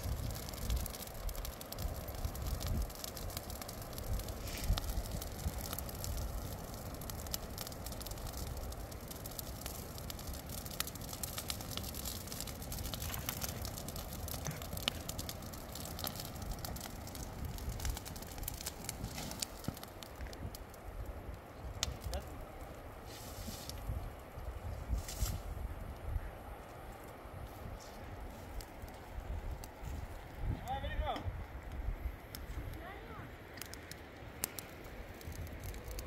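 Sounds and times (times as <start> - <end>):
dry grass burning: 0.0 - 36.0
fire crackles and pops: 0.0 - 36.0.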